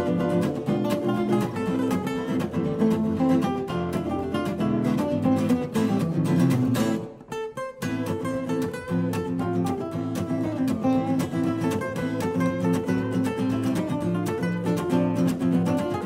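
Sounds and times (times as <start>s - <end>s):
jazz guitar duo playing: 0.0s - 16.0s.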